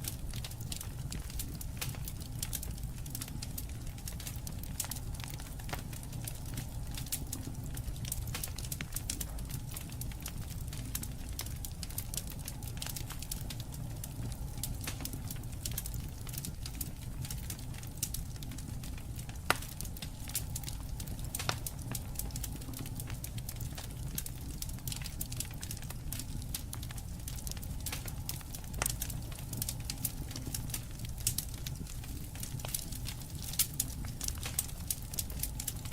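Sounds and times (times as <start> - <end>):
campfire crackling: 0.0 - 35.9
low rumble of flame: 0.0 - 35.9.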